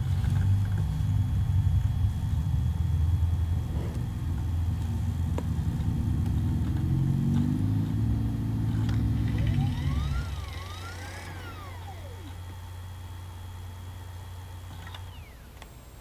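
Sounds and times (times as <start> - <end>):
laptop low hum: 0.0 - 16.0
laptop whine gliding in pitch: 0.0 - 16.0.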